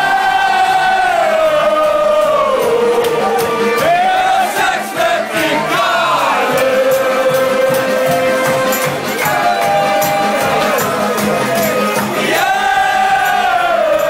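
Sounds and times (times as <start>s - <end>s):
crowd singing along: 0.0s - 14.0s
loud party music with beat: 0.0s - 14.0s.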